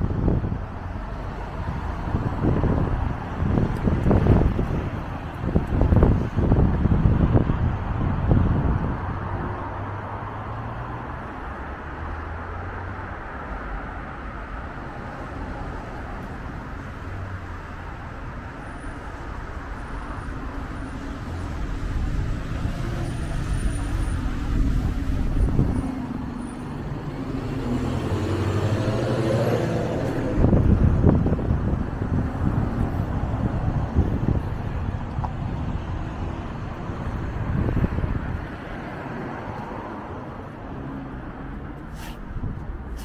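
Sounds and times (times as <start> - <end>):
wind buffeting microphone: 0.0 - 11.4, 19.1 - 43.0
passing vehicles humming: 0.0 - 43.0.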